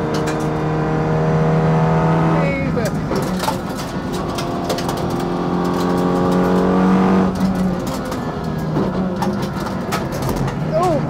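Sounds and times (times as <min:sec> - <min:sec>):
race car engine revving: 0:00.0 - 0:10.7
engine crackles: 0:00.0 - 0:11.0.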